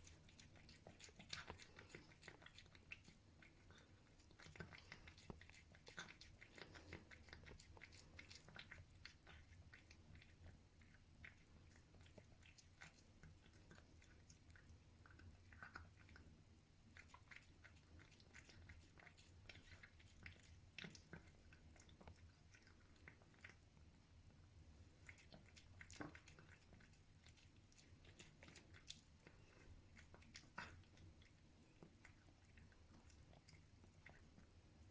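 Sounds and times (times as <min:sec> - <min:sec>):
cat chewing food: 0:00.0 - 0:34.9.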